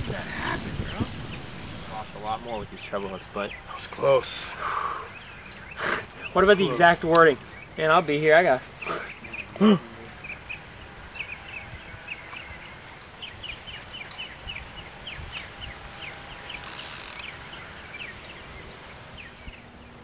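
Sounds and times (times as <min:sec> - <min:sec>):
birds chirping: 0:00.0 - 0:20.0
faint outdoor background noise: 0:00.0 - 0:20.0.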